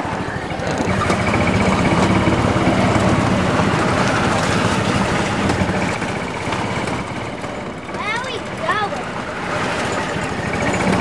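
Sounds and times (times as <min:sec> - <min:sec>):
golf buggy motor running: 0:00.0 - 0:11.0
tyre and road noise: 0:00.0 - 0:11.0.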